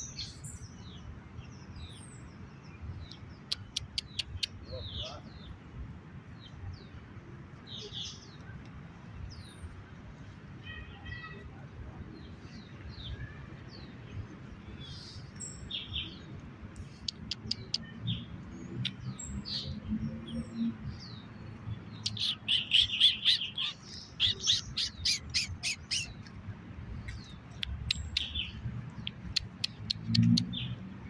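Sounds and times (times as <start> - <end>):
birds chirping: 0.0 - 5.6, 6.2 - 31.0.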